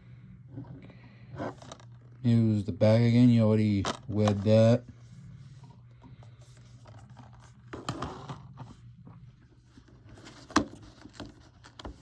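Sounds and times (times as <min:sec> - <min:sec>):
disc case rustling and scraping: 0:00.5 - 0:02.0, 0:03.8 - 0:12.0.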